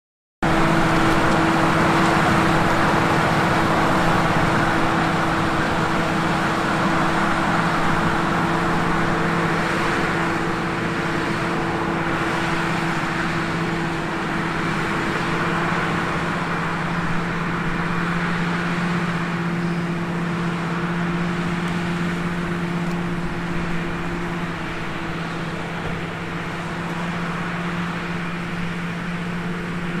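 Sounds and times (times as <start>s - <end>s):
diesel engine running: 0.4s - 30.0s.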